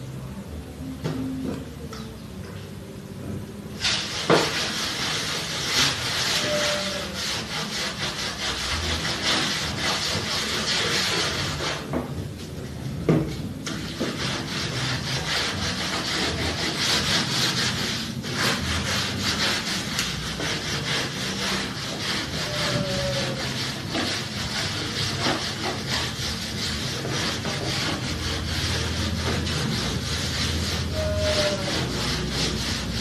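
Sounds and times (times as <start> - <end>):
scraping and scrubbing tabletop: 3.8 - 33.0.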